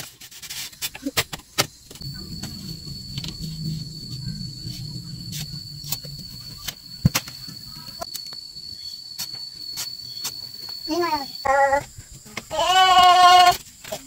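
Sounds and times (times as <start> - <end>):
high insect whine: 0.7 - 14.0.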